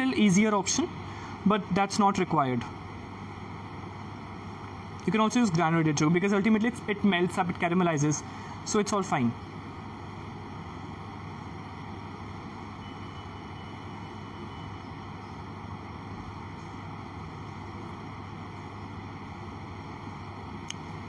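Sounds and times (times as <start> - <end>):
fan-like airy noise: 0.0 - 21.0
machine hum: 0.0 - 21.0.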